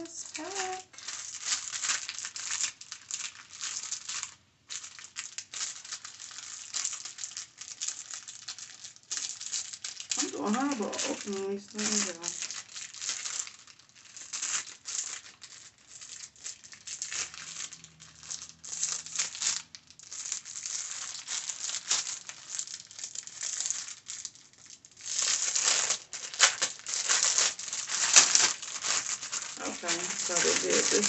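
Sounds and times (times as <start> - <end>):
plastic packaging crinkling: 0.0 - 31.0.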